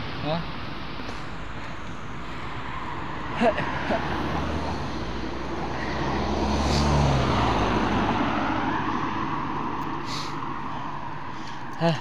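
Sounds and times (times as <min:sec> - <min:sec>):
background traffic: 0:00.0 - 0:12.0
car passing: 0:01.2 - 0:12.0.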